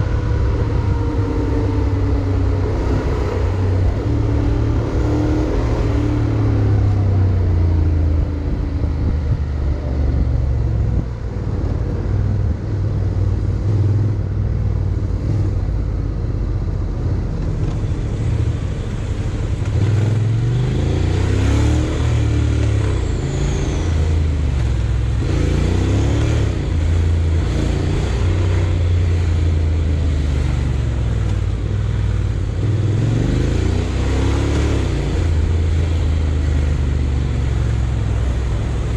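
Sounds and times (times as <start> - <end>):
motorcycle engine revving: 0.0 - 14.3, 17.4 - 38.9
wind and road rush: 0.0 - 38.9.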